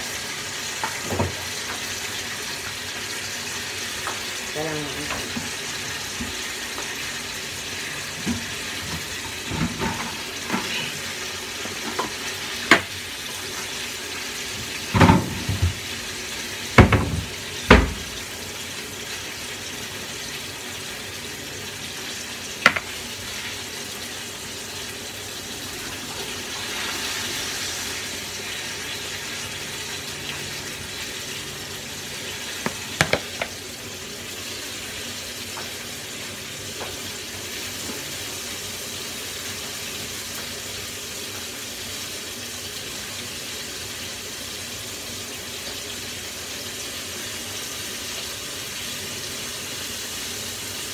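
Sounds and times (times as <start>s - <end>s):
water running from a tap: 0.0s - 50.9s.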